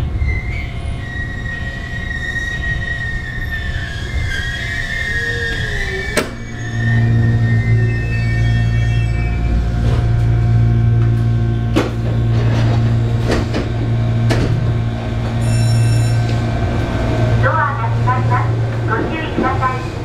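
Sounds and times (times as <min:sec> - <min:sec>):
electric train running with low hum: 0:00.0 - 0:20.0.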